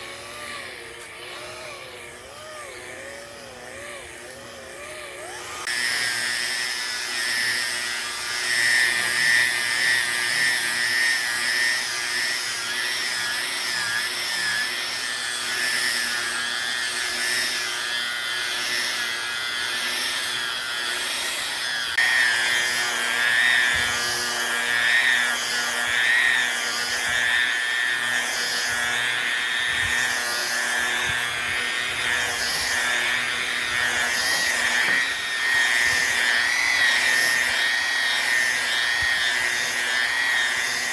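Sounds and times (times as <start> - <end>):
power tool grinding wood: 0.0 - 40.9.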